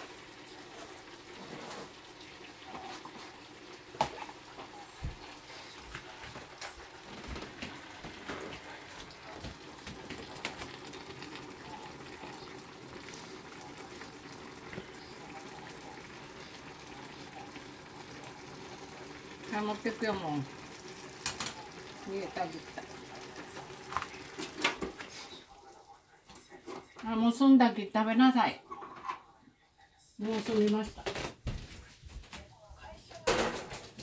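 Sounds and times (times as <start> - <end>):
pot simmering with faint bubbling: 0.0 - 27.6.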